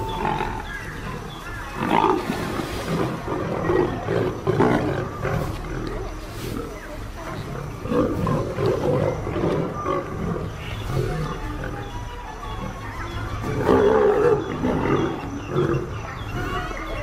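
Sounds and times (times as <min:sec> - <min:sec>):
lions growling and roaring: 0:00.0 - 0:17.0.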